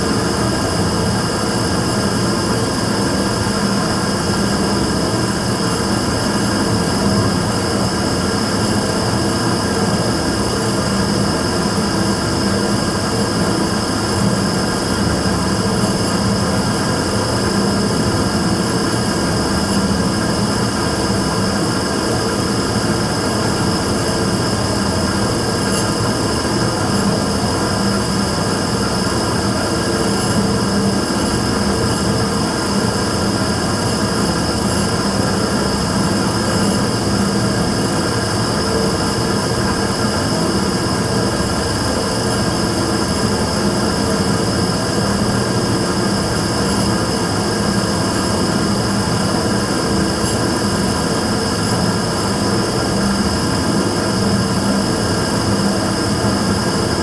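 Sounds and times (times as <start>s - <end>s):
burner combustion and blower noise: 0.0s - 57.0s.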